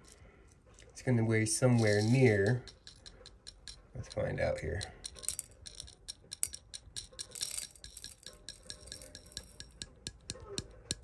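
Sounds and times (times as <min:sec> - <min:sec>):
metal flakes clinking in scale pan: 0:01.7 - 0:11.0.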